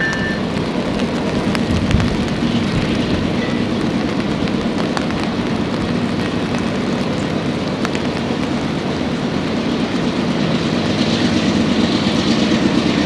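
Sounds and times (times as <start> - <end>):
raindrops ticking: 0.0 - 10.8
diesel locomotive rumble: 0.0 - 13.0
heavy rain hissing: 0.0 - 13.0.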